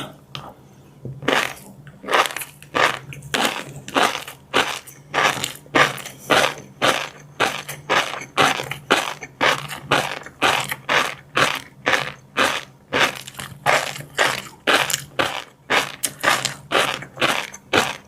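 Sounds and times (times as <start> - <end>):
crunchy chewing: 1.2 - 18.0.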